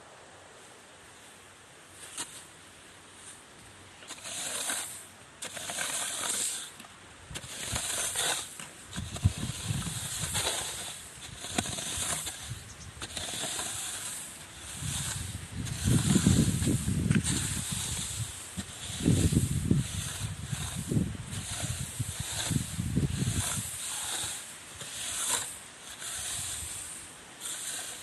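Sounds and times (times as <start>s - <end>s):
rice grains swishing: 4.0s - 6.8s, 7.4s - 28.0s.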